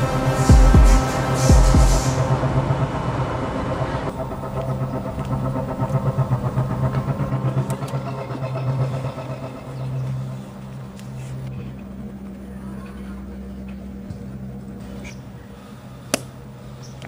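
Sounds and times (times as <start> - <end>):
pulsing low droning hum: 0.0 - 17.0.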